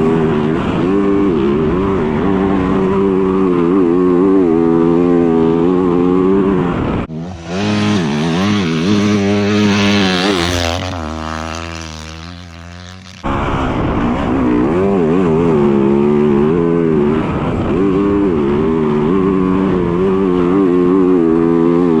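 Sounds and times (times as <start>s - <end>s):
engine with falling pitch: 0.0s - 22.0s
motorcycle engine revving: 0.0s - 22.0s.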